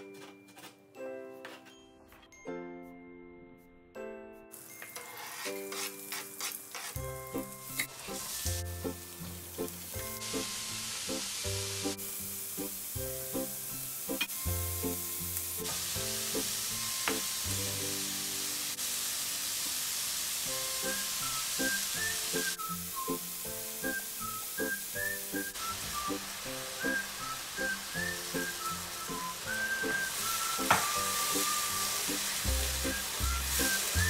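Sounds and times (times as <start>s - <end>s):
background music: 0.0s - 18.8s, 20.4s - 34.0s
meat sizzling in frying pan: 4.6s - 34.0s.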